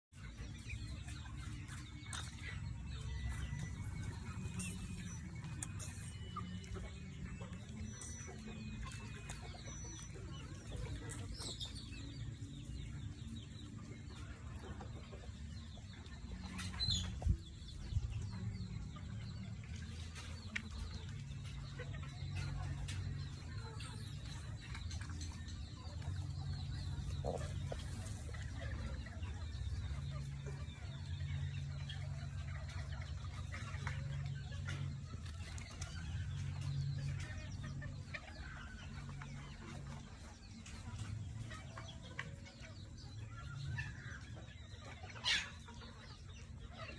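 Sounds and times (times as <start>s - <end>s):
chickens clucking: 0.1s - 46.9s.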